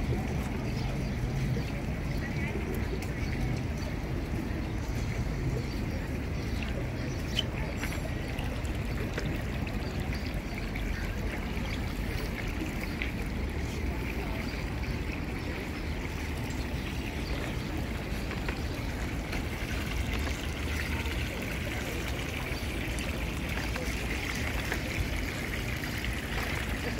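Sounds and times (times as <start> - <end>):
fountain water pouring: 0.0 - 26.9.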